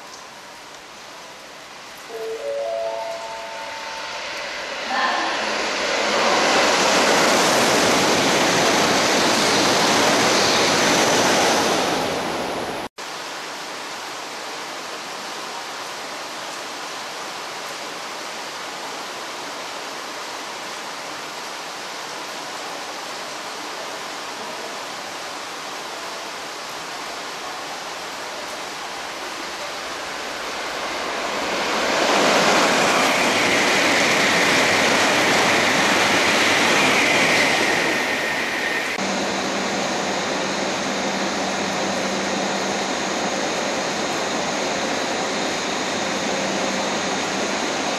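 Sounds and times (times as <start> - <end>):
rain hissing: 0.0 - 47.9
train passing at speed: 1.2 - 12.9, 13.5 - 47.9.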